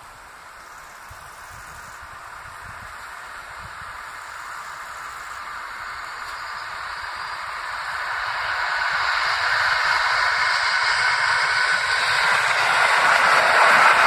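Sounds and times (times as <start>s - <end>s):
train wheels hissing on rails: 0.0s - 14.0s.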